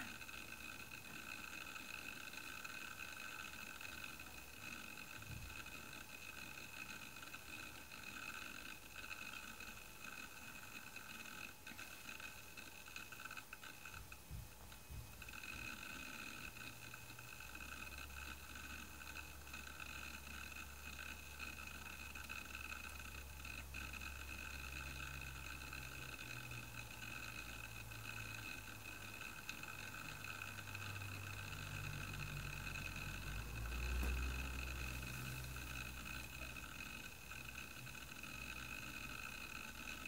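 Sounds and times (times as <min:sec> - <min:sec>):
disk drive hum: 0:00.0 - 0:40.0.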